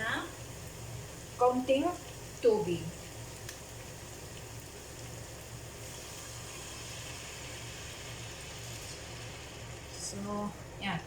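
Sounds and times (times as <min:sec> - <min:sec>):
sauce bubbling in pan: 0:00.2 - 0:10.8.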